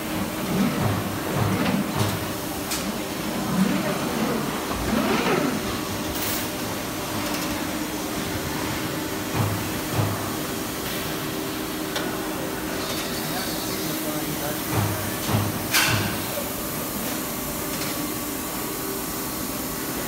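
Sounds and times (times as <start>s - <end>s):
factory machinery hum: 0.0s - 20.0s.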